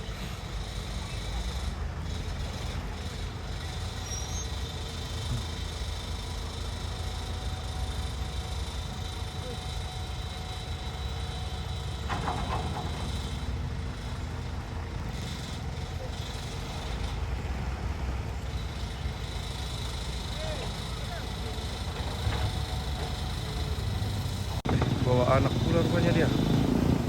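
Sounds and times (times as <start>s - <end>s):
heavy vehicle engines rumbling: 0.0s - 27.0s.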